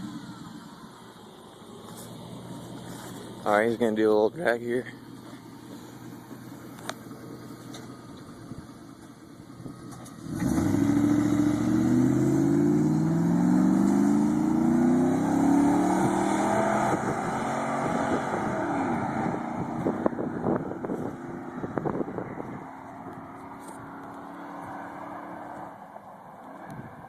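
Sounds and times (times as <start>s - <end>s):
truck exhaust accelerating: 0.0s - 27.0s.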